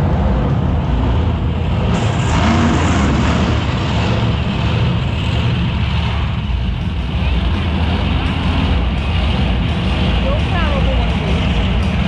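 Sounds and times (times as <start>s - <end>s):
monster truck engines running: 0.0s - 12.0s.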